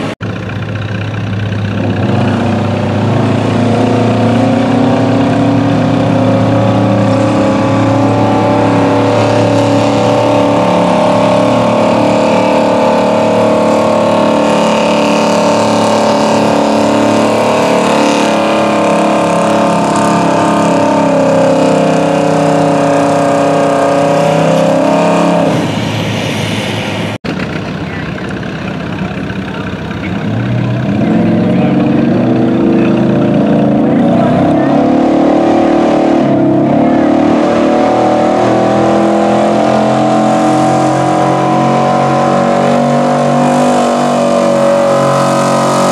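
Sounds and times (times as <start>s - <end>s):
pickup engine at high revs: 0.0s - 45.9s
pickup engine revving: 0.0s - 45.9s.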